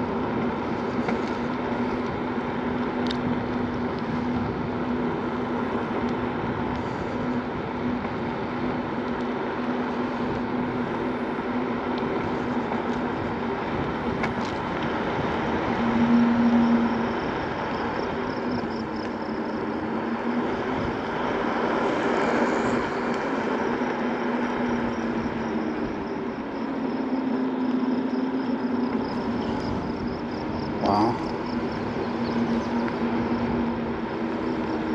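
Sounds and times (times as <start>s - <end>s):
electric scooter hum: 0.0s - 34.9s.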